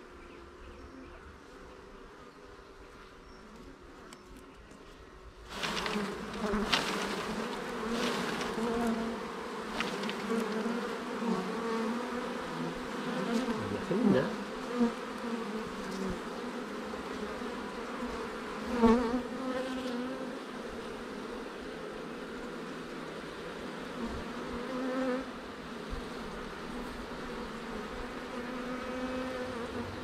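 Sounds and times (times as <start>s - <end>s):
bee flying past: 0.0s - 30.0s
honeybees buzzing: 0.0s - 30.0s.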